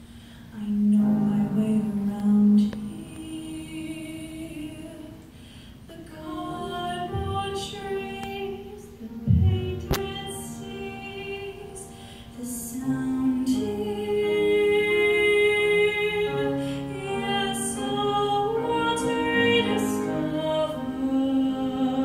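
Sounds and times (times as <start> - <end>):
grand piano accompaniment: 0.0 - 22.0
woman singing classical style: 0.5 - 22.0.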